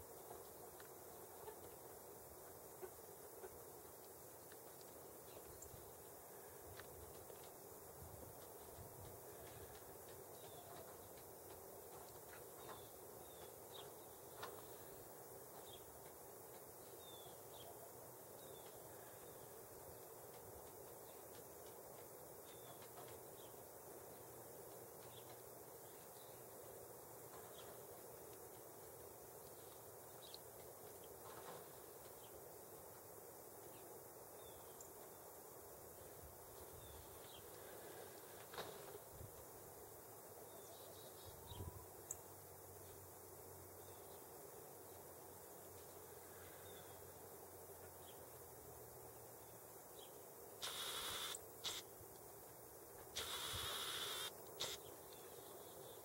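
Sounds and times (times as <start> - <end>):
faint outdoor hiss: 0.0 - 56.0.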